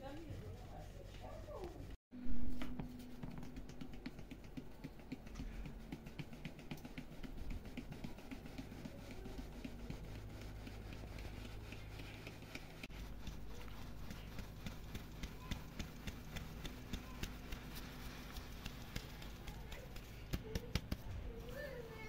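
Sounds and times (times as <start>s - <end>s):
flour sieve pattering and rustling: 0.0s - 22.0s.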